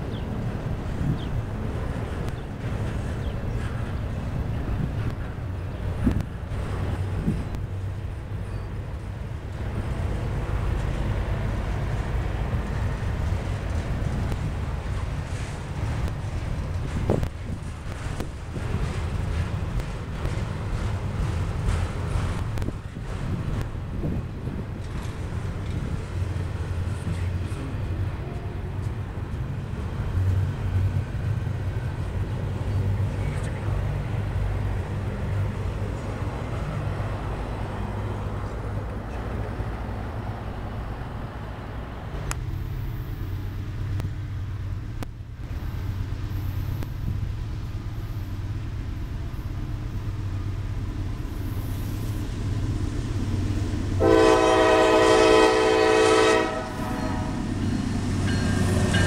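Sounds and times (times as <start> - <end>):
diesel locomotive approaching: 0.0 - 59.0
freight train rumbling: 0.0 - 59.0.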